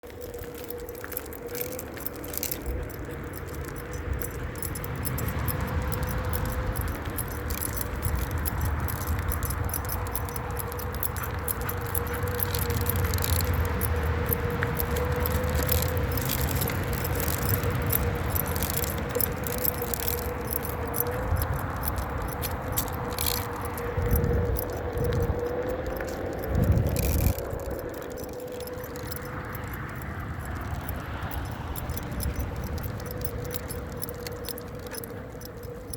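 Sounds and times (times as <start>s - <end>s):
metallic jingling and clicks: 0.0s - 35.9s.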